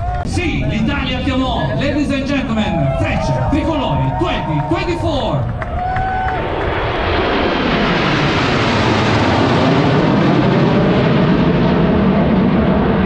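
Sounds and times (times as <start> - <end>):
jet aircraft noise: 0.0 - 13.0.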